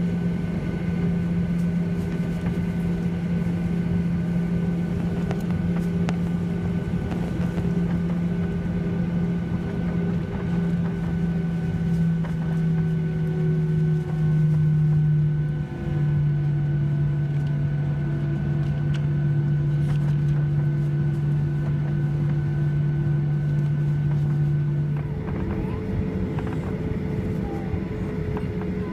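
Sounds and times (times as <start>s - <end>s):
jet engine cabin hum: 0.0s - 28.9s.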